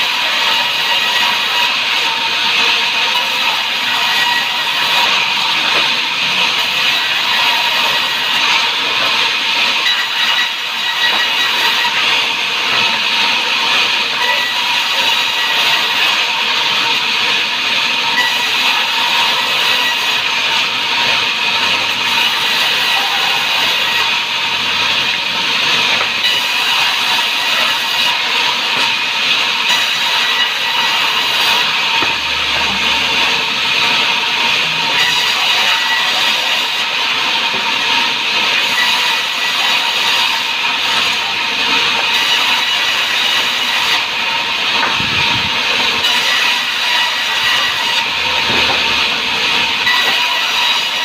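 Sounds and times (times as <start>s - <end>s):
saw cutting timber: 0.0s - 51.0s.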